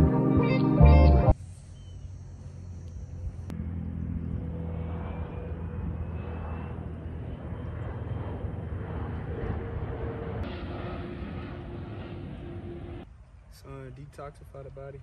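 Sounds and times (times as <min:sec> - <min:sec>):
distant engine droning: 0:00.8 - 0:14.7.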